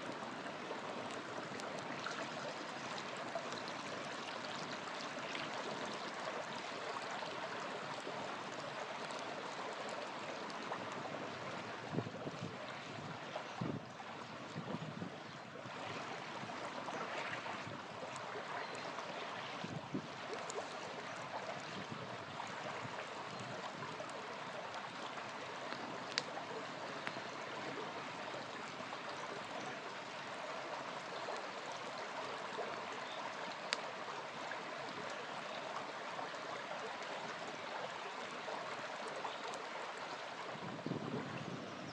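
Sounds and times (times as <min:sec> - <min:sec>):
campfire crackling: 0:00.0 - 0:13.4, 0:15.2 - 0:40.2
river flowing and gurgling: 0:00.0 - 0:41.9.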